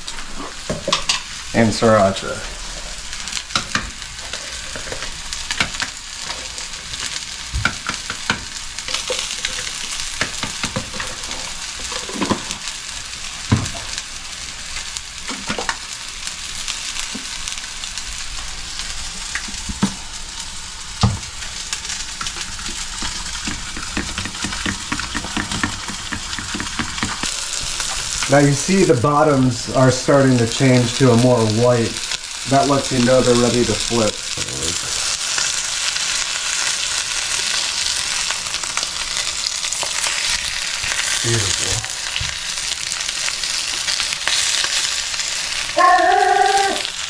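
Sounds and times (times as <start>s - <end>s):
patties sizzling in oil: 0.0s - 47.0s.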